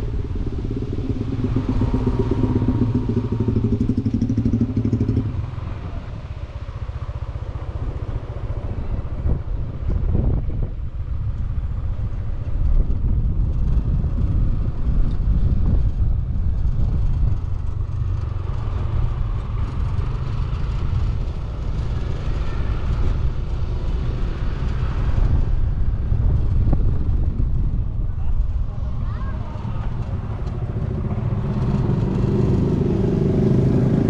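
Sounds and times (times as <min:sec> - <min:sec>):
motorcycle engine running: 0:00.0 - 0:34.0
wind rumble on microphone: 0:00.0 - 0:34.0.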